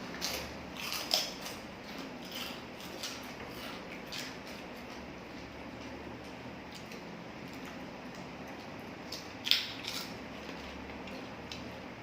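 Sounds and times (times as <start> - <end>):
eating clicks and crunches: 0.0 - 12.0.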